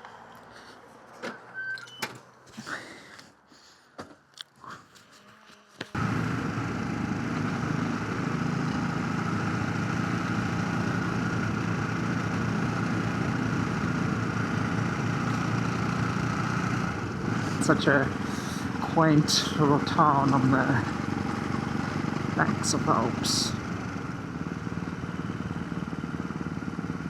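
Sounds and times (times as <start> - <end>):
motorcycle engine cruising: 5.0 - 27.0.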